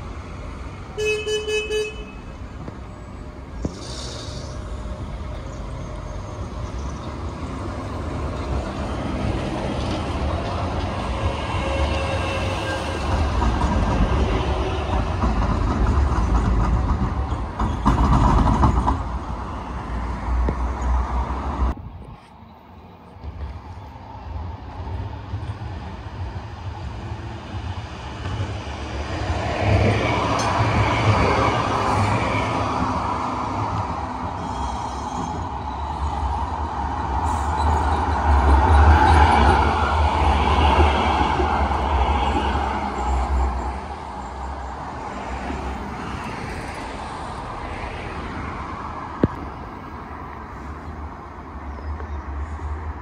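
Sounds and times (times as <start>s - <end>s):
electric tram running past: 0.0s - 53.0s.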